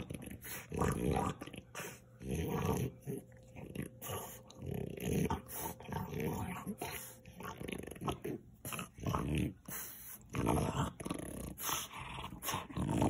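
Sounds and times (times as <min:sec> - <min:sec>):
dog growling: 0:00.0 - 0:13.0.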